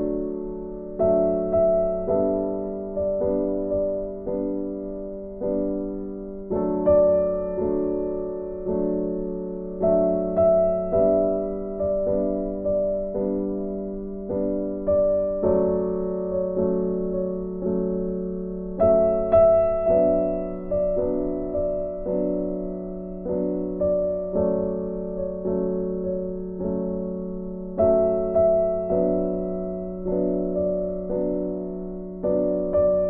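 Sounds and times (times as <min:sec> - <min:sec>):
slow gentle piano melody: 0:00.0 - 0:33.0.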